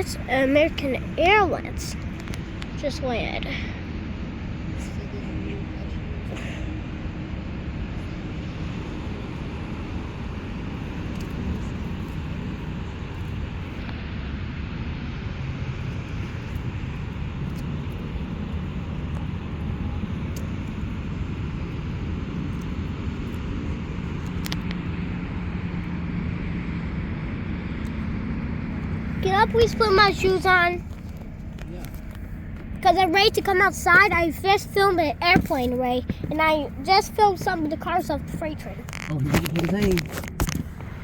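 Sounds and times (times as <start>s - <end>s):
low vehicle rumble: 0.0s - 41.0s.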